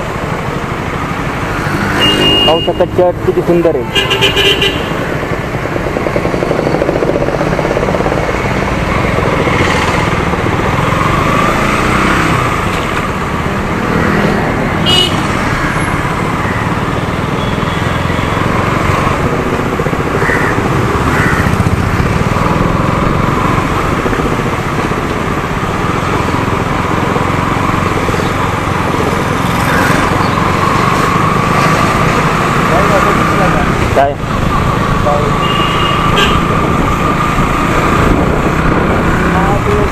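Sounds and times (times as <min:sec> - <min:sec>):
road noise: 0:00.0 - 0:39.9
motorcycle engine running: 0:04.2 - 0:39.9.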